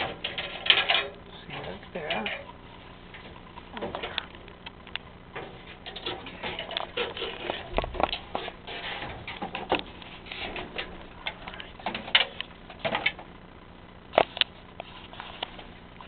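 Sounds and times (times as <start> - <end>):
clicks taps and rustling: 0.0 - 13.4.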